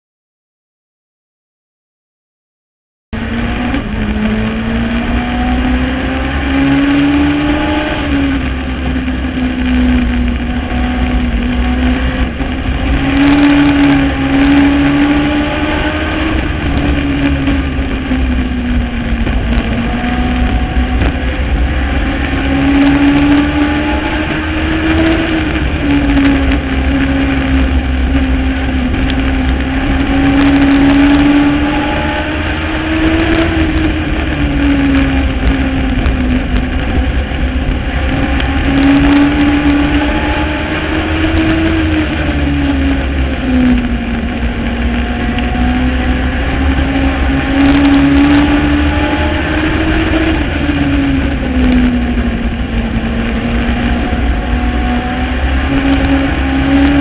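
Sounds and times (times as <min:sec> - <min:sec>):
low rumble: 0:03.2 - 0:57.0
race car engine revving: 0:03.2 - 0:57.0
wind noise: 0:03.2 - 0:57.0.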